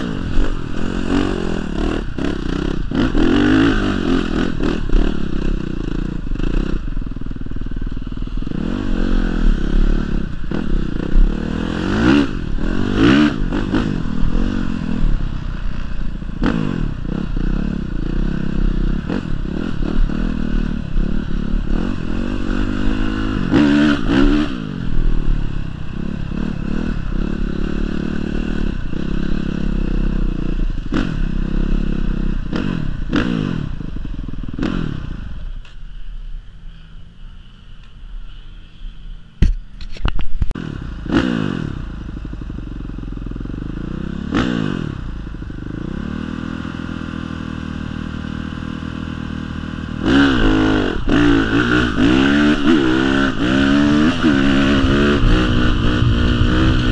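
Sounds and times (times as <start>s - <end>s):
dirt bike engine revving: 0.0s - 35.4s, 40.6s - 56.9s.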